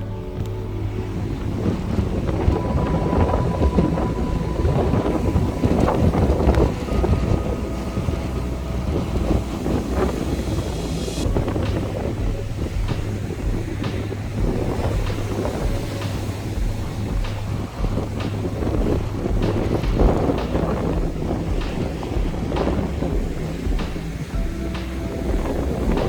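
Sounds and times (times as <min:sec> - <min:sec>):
wind blowing across microphone: 0:00.0 - 0:26.0.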